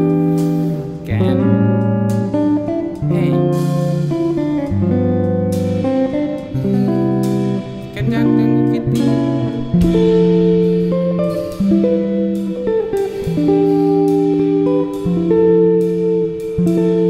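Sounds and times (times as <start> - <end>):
plucked guitar chords: 0.0 - 17.0.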